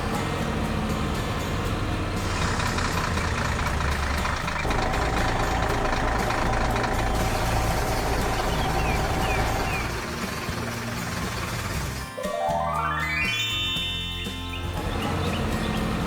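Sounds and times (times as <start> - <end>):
heavy truck engine running: 0.0 - 12.2, 14.4 - 16.0.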